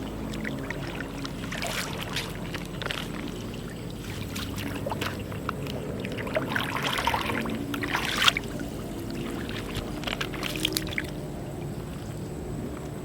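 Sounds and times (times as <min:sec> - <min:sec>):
steady low hum: 0:00.0 - 0:13.0
water splashing and trickling: 0:00.0 - 0:13.0.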